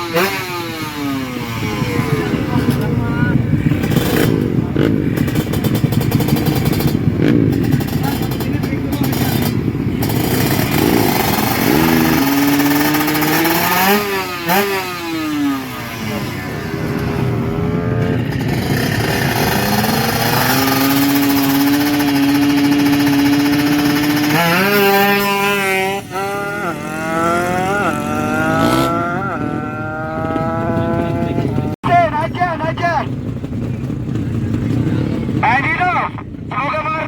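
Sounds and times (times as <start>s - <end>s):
motorcycle engine revving: 0.0s - 31.8s, 32.7s - 37.0s.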